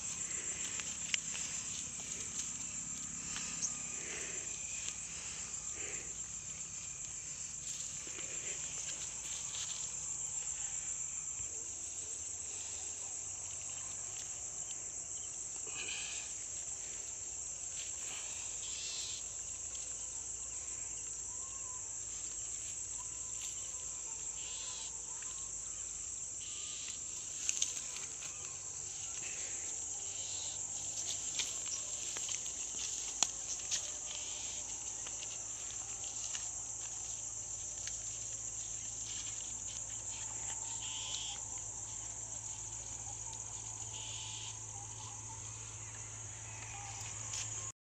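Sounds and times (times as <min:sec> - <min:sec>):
insects trilling: 0:00.0 - 0:47.7
rustles: 0:00.0 - 0:47.7.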